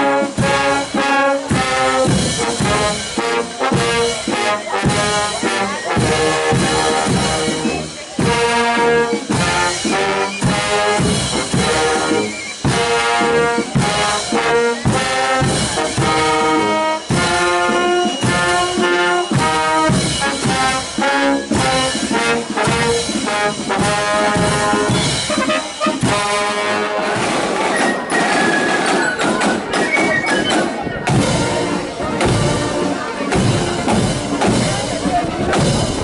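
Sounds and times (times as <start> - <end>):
brass band playing: 0.0 - 36.0
steady drum beat: 0.0 - 36.0.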